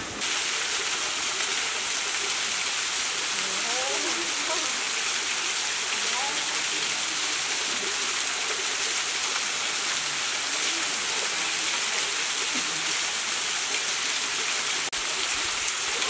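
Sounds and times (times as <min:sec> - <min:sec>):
small waterfall splashing onto rocks: 0:00.0 - 0:16.0.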